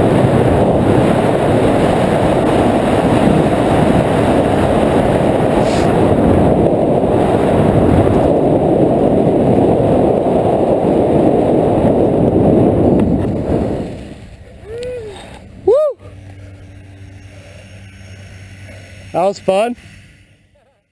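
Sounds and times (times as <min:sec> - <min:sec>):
wind rushing over microphone: 0:00.0 - 0:17.3.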